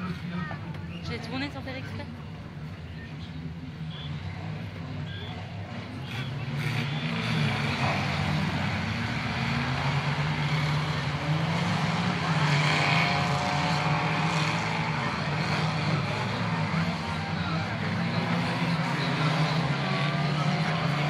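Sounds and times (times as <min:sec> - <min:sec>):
race car engines running hard: 0:00.0 - 0:21.0.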